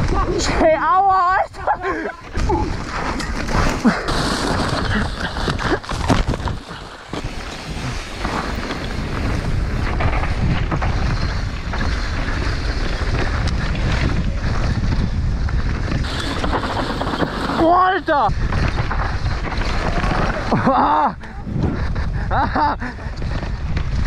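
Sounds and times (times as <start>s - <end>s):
bike rattling: 0.0s - 24.0s
tyre noise on dirt: 0.0s - 24.0s
wind buffeting microphone: 0.0s - 24.0s.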